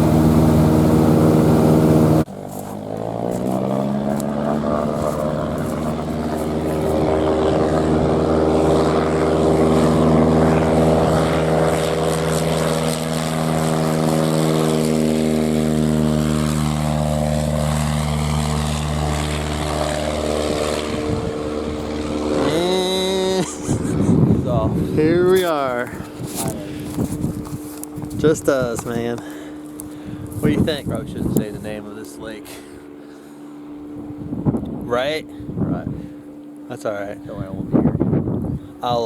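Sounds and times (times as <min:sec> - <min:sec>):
light aircraft engine droning: 0:00.0 - 0:39.0.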